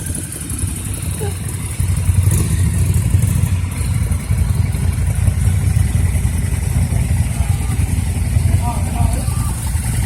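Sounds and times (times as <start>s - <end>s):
motorcycle engine running at low revs: 0.0s - 10.0s.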